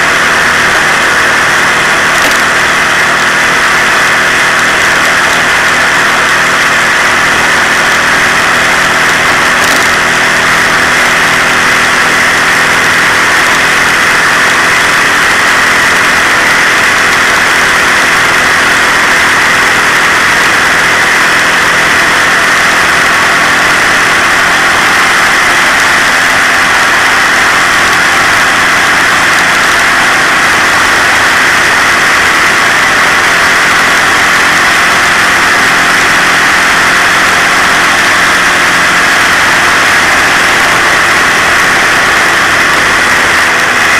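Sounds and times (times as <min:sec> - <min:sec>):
moped engine running: 0:00.0 - 0:43.9.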